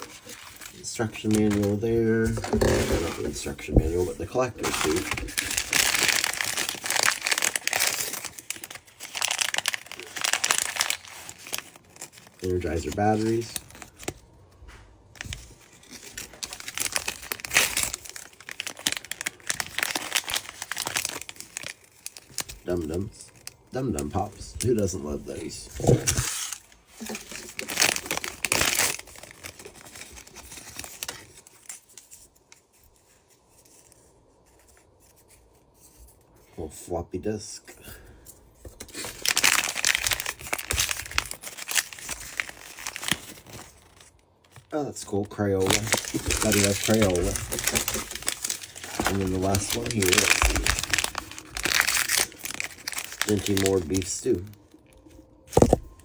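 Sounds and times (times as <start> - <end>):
crinkly wrapping being torn open: 0.0 - 35.6, 38.7 - 56.0.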